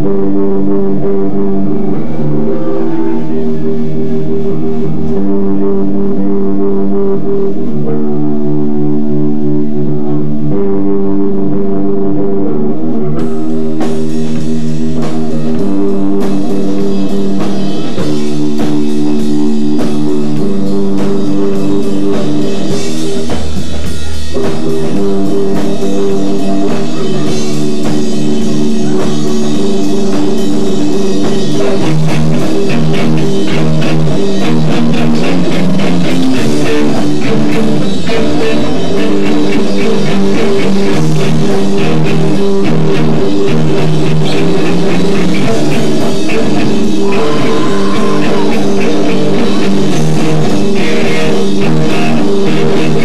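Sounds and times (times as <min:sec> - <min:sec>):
drum kit: 0:00.0 - 0:53.0
electric guitars ringing chords: 0:00.0 - 0:53.0.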